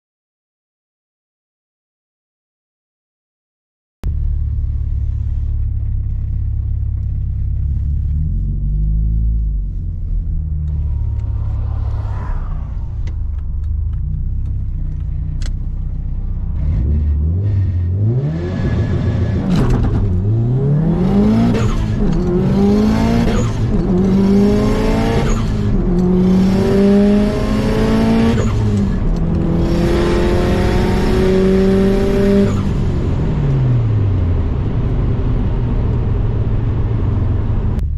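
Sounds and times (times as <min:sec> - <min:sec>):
car engine accelerating through gears: 0:04.1 - 0:37.9.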